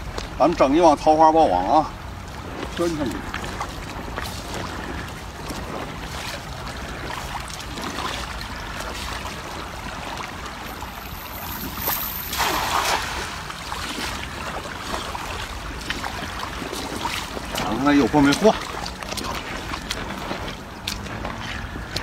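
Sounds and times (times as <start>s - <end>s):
shallow river water rushing: 0.0s - 22.0s
cast net splashing on water: 2.0s - 22.0s.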